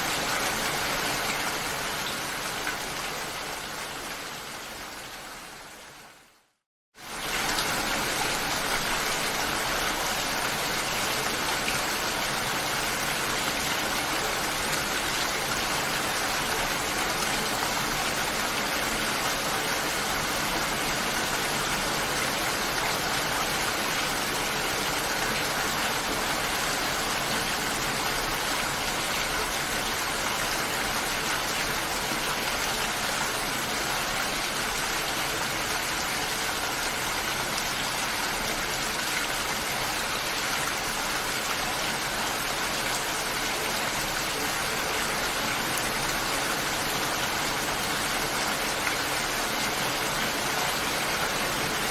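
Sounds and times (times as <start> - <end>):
dense rainfall: 0.0 - 51.9.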